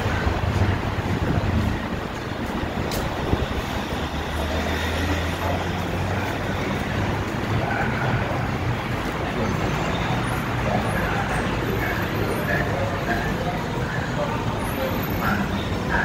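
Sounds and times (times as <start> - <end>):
road traffic rumble: 0.0 - 16.0
train station concourse din: 0.0 - 16.0.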